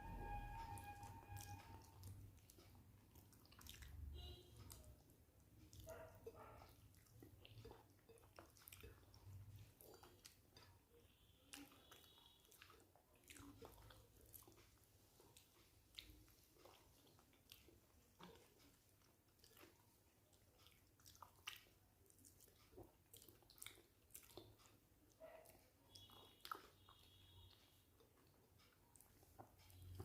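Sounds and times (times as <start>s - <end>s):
person chewing: 0.3s - 30.0s.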